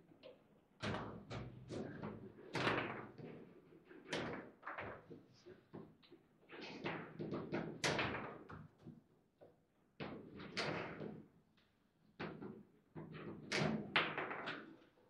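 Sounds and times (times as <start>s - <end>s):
table football knocks and clacks: 0.8s - 11.3s, 12.2s - 15.0s.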